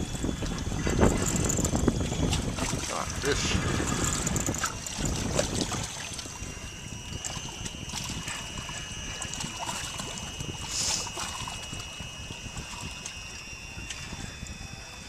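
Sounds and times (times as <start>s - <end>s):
faint steady high whine: 0.0s - 15.0s
water lapping against boat hull: 0.0s - 15.0s.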